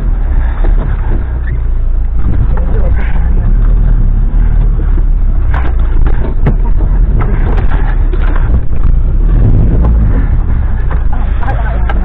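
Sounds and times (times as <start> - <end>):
vehicle engine droning: 0.0 - 12.0
knocks and rattles: 0.3 - 12.0.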